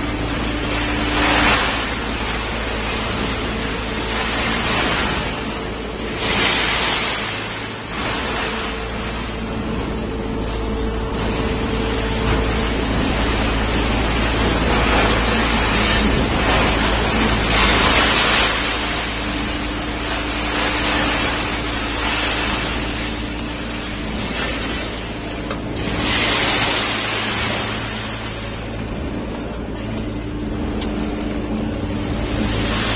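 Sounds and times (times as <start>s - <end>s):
hydraulic baler running: 0.0s - 32.9s.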